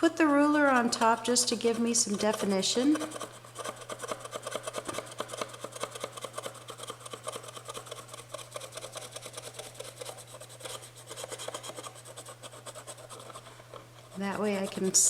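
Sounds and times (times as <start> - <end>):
hand tool scraping wood: 0.4 - 15.0.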